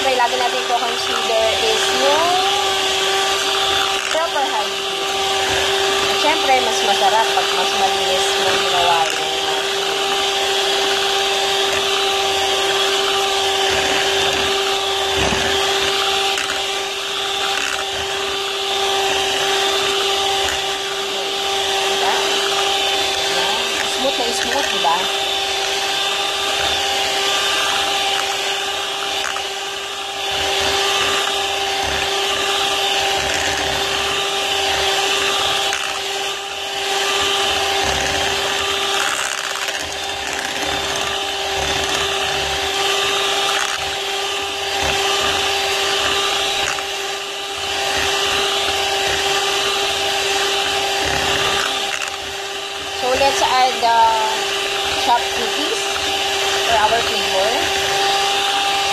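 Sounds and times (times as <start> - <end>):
electric hand mixer whine: 0.0 - 58.9.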